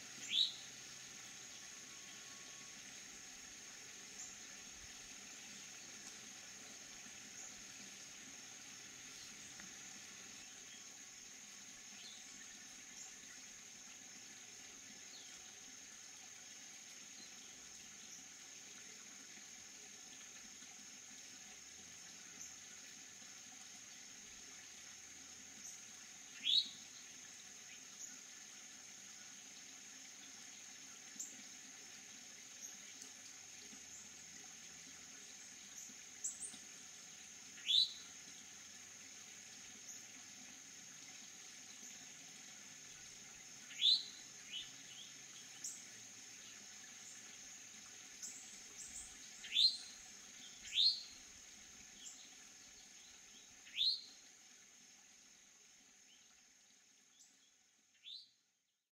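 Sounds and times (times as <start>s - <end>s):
high insect drone: 0.0s - 54.1s.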